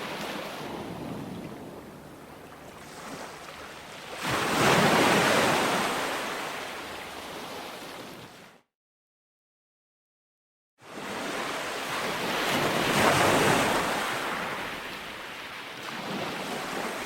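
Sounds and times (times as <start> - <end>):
ocean wave breaking on beach: 0.0 - 8.5, 10.9 - 17.0.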